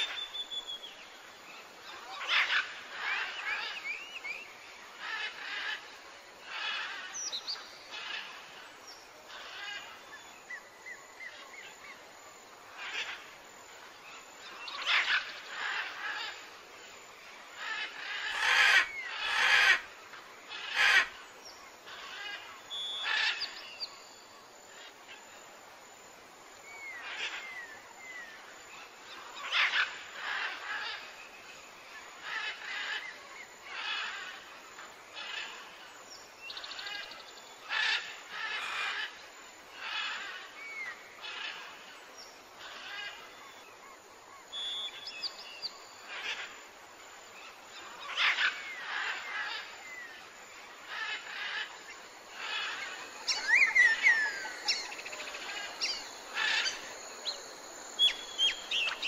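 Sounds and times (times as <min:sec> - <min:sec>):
birds calling and chirping: 0:01.8 - 0:12.0, 0:12.7 - 0:16.6, 0:17.3 - 0:25.2, 0:26.6 - 0:59.0.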